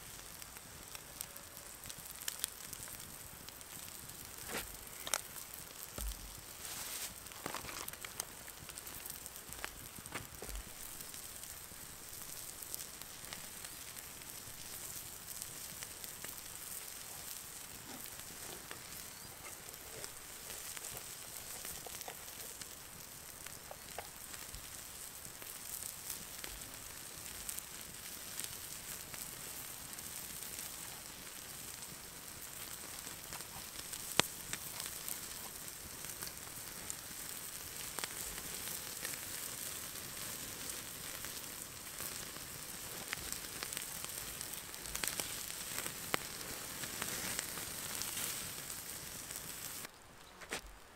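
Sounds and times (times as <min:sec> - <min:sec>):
meat sizzling on a grill: 0:00.0 - 0:49.9
campfire crackling: 0:00.0 - 0:50.9.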